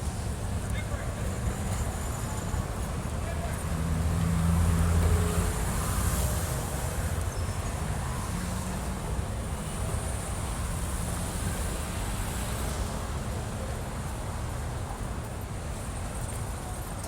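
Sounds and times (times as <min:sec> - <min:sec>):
low rumble of road traffic: 0:00.0 - 0:17.0.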